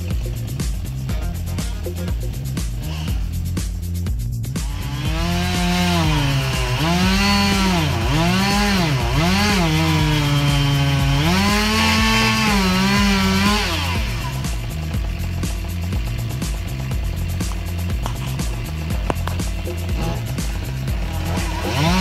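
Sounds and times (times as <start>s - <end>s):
chainsaw revving and cutting: 0.0s - 3.7s, 4.6s - 22.0s.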